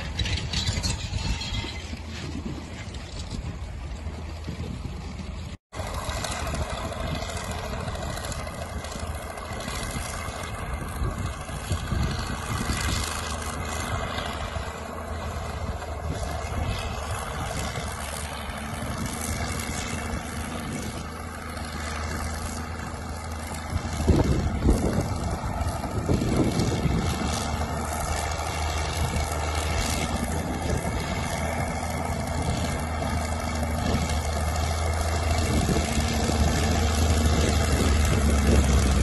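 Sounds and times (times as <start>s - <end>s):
distant diesel engine running: 0.0s - 39.0s.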